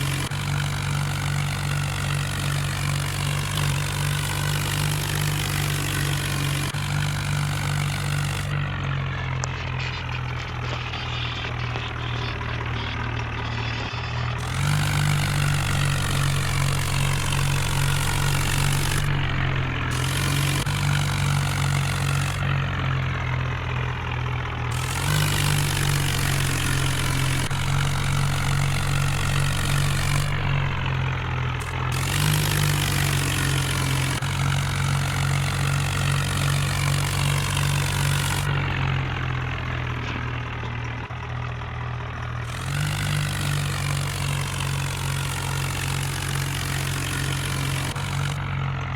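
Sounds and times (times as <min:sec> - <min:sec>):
tractor diesel engine: 0:00.0 - 0:48.9.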